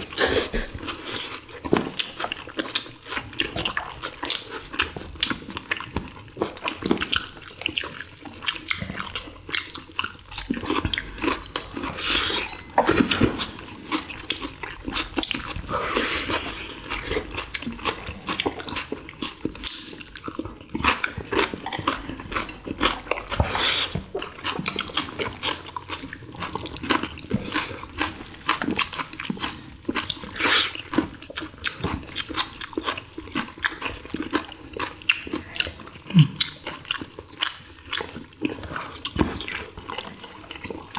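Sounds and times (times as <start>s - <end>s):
wet chewing and smacking: 0.0s - 40.9s.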